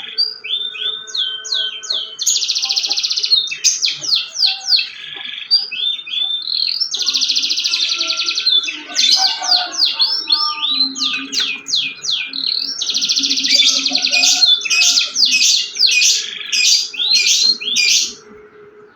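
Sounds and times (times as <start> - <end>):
canary singing: 0.0 - 18.9.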